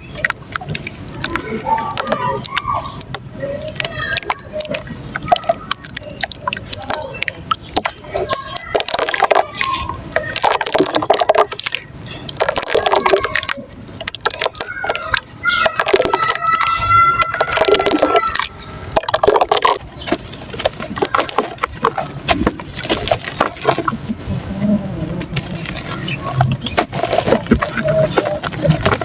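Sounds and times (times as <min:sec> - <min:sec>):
mud crumbling in water: 0:00.0 - 0:29.0.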